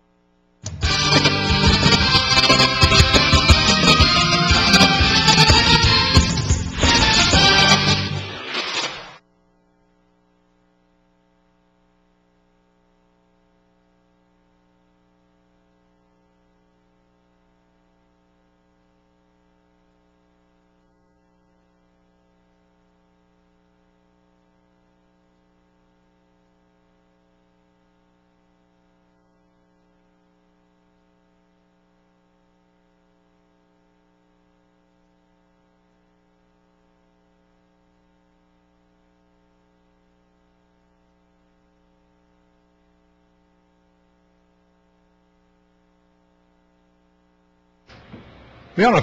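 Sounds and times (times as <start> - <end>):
faint electrical hum: 0.0 - 0.8, 9.2 - 49.0.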